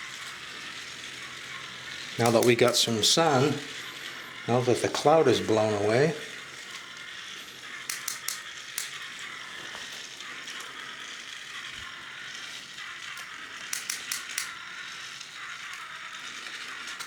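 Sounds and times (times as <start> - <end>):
ratchet wheel clicks: 0.0 - 6.0, 6.8 - 10.8, 11.5 - 17.0
toy motors and gears whirring: 0.0 - 17.0.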